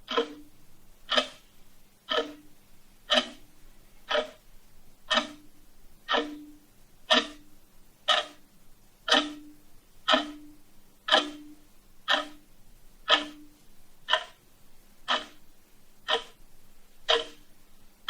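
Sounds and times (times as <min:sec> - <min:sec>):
clock ticking: 0:00.0 - 0:17.6.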